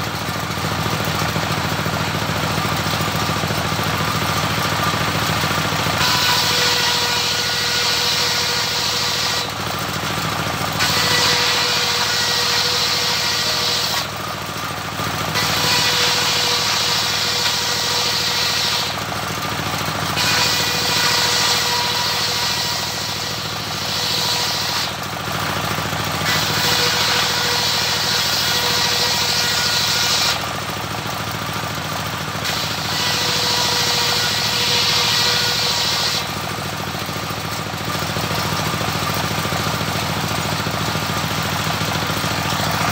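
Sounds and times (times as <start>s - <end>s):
diesel engine running: 0.0s - 42.9s
saw blade cutting wood: 0.0s - 42.9s.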